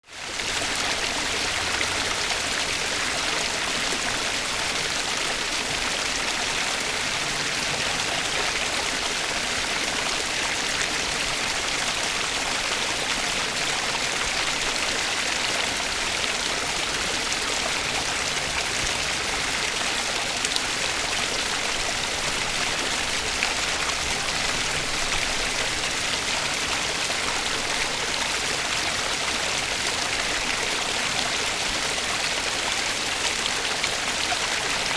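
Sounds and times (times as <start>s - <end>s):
stream water running: 0.0s - 34.9s.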